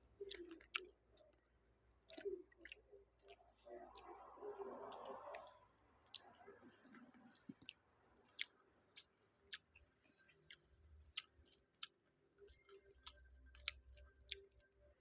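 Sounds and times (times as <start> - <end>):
chewing and mouth sounds: 0.0 - 15.0
low background hum: 0.0 - 15.0.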